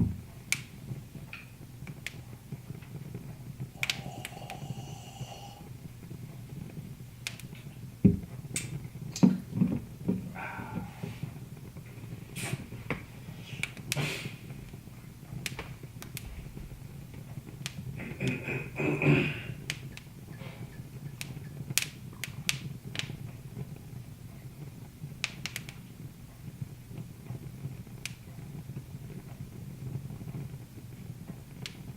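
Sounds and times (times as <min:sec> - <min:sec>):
low fire rumble: 0:00.0 - 0:31.9
wood fire crackling and popping: 0:00.0 - 0:31.9.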